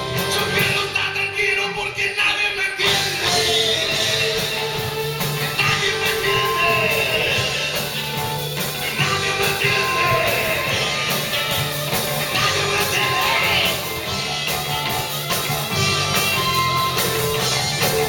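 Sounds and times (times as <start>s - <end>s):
person singing: 0.0s - 14.7s
rock band playing live: 0.0s - 18.0s.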